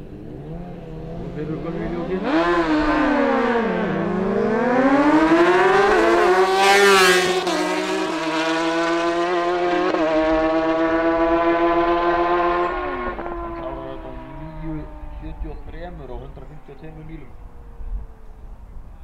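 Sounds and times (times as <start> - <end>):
motorcycles accelerating hard: 0.0 - 18.6.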